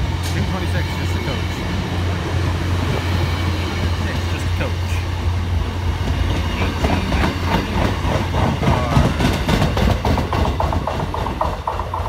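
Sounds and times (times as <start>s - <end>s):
train rumbling past: 0.0s - 12.0s
train wheels clattering over track: 0.0s - 12.0s.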